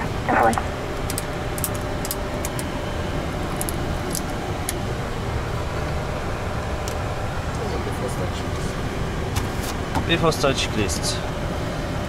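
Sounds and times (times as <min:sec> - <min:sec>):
ventilation fans rumbling: 0:00.0 - 0:12.0.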